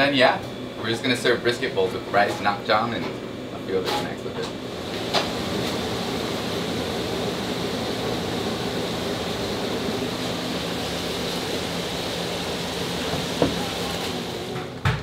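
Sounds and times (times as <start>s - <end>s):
kitchen ventilation rushing: 0.0s - 15.0s.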